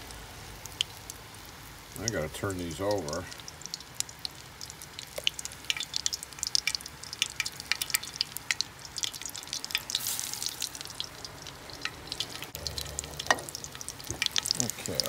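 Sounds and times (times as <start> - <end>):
oil crackling and spitting: 0.0 - 15.0.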